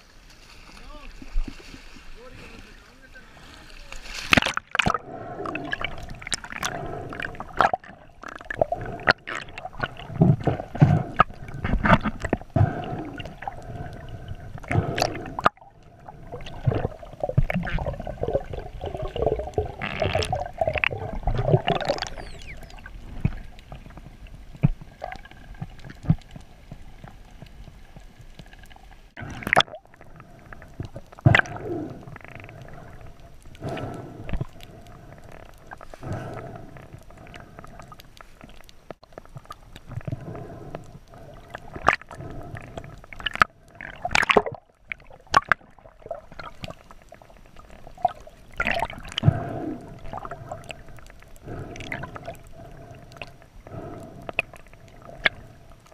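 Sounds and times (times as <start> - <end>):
underwater gurgling: 4.1 - 55.9.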